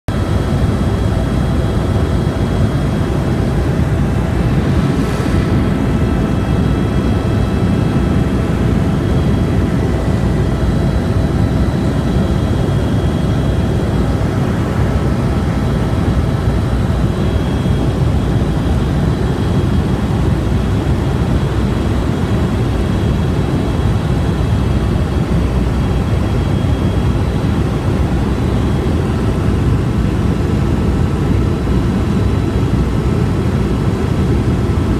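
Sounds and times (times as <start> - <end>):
helicopter rotor and engine drone: 0.1 - 34.9.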